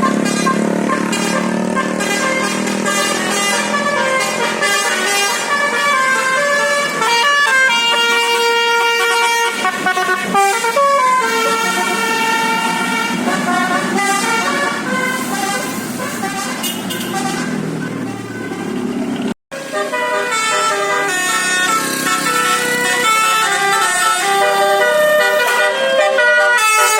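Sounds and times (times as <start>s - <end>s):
musical bus horn playing a tune: 0.0s - 26.9s.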